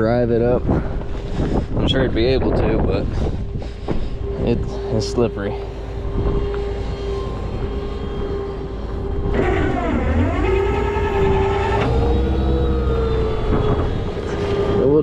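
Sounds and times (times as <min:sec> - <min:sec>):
louder whine under load: 0:00.0 - 0:15.0
truck engine running: 0:00.0 - 0:15.0
hydraulic pump whining: 0:02.5 - 0:15.0.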